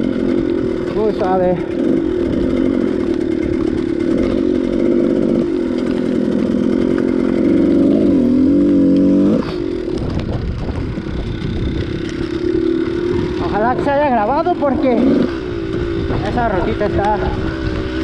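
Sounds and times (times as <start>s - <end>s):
dirt bike engine: 0.0s - 18.0s.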